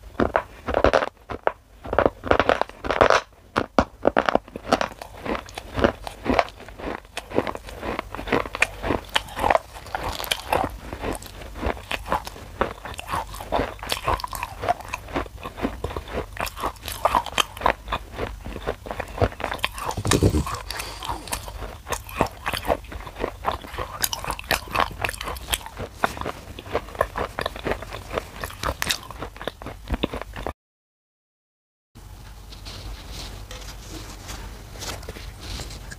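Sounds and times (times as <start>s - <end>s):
crunchy chewing: 0.0s - 30.5s, 32.4s - 35.9s.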